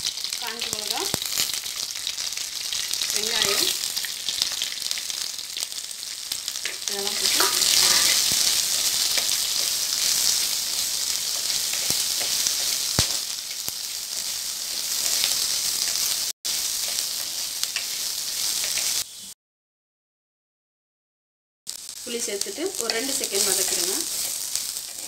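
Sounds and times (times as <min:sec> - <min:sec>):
food sizzling in hot oil: 0:00.0 - 0:19.4, 0:21.7 - 0:25.0.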